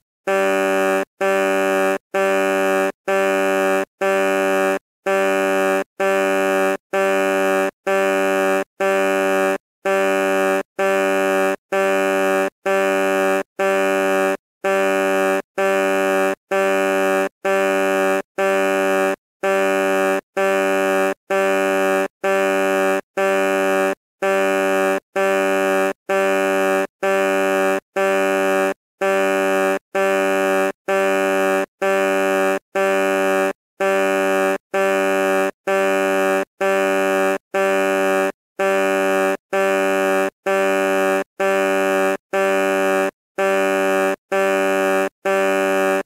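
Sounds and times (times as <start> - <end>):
truck horn honking: 0.0 - 46.0.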